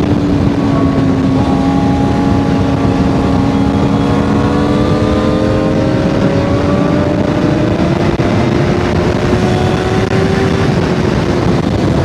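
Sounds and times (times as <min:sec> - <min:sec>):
motorcycle engine accelerating: 0:00.0 - 0:12.0
wind rush on microphone: 0:00.0 - 0:12.0.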